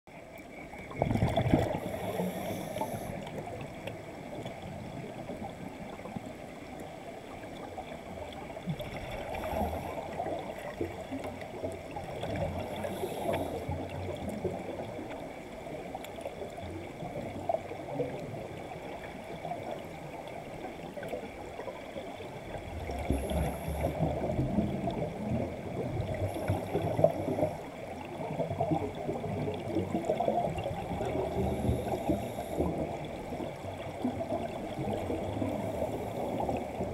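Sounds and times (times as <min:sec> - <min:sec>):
air bubbles rising underwater: 0:00.6 - 0:06.4, 0:07.4 - 0:36.9.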